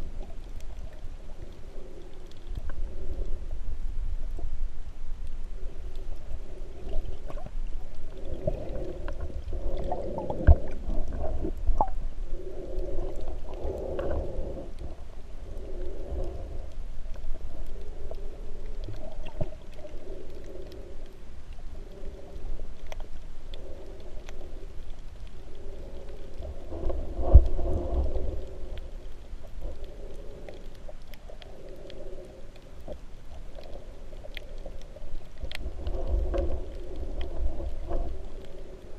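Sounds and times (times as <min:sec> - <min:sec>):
underwater rumble of moving water: 0:00.0 - 0:38.9.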